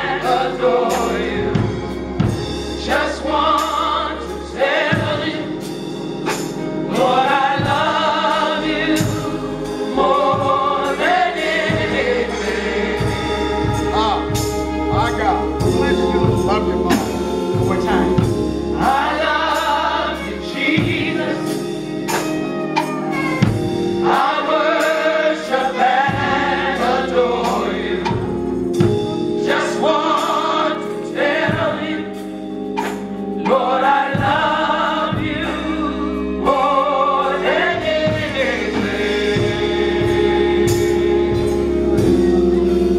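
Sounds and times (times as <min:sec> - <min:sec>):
gospel choir singing: 0:00.0 - 0:42.9
live band playing: 0:00.0 - 0:42.9.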